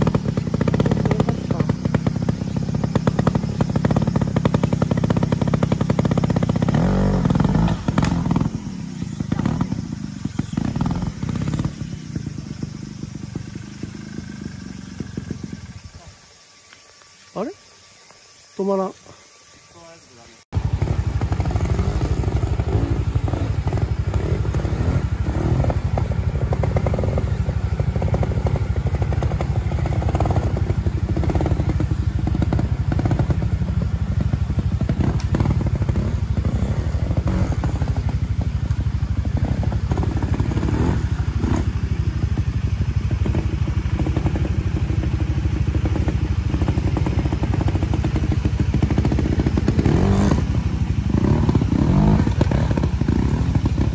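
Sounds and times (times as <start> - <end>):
motorcycle engine at low revs: 0.0 - 53.9.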